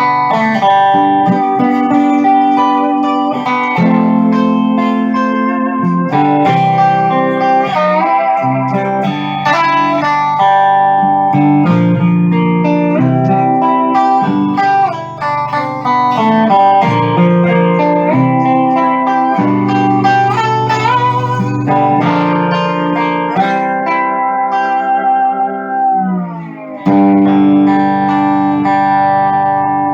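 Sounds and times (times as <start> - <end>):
steel guitar sliding notes: 0.0 - 29.9.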